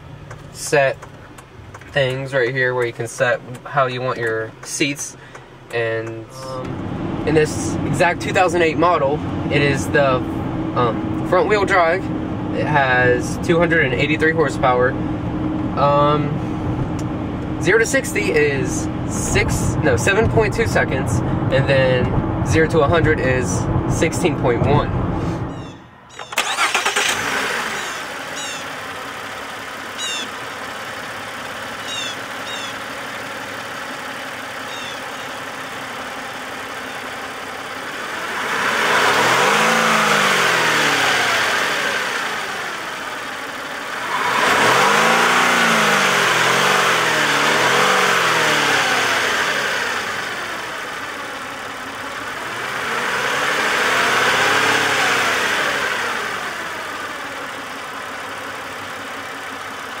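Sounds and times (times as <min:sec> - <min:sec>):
car engine idling and revving: 0:00.0 - 1:00.0.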